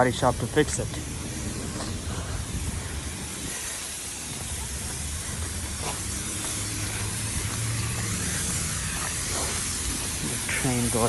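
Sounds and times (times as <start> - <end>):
elevated train rumble: 0.0 - 11.0
street noise hiss: 0.0 - 11.0.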